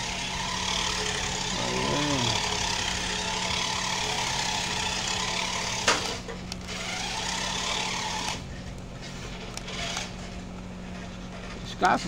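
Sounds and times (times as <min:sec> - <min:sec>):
toy car electric motor running: 0:00.0 - 0:08.5, 0:09.1 - 0:11.6.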